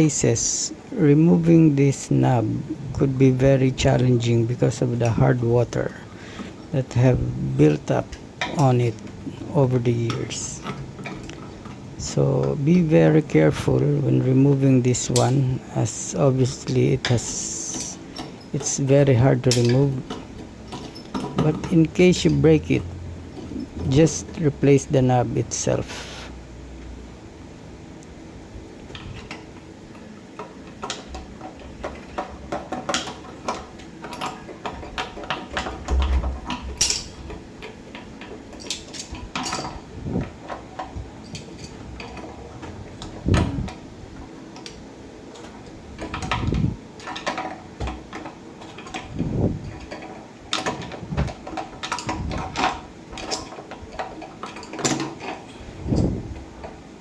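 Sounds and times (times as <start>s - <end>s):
hand tools clicking and clinking: 3.5s - 22.8s, 28.9s - 56.8s.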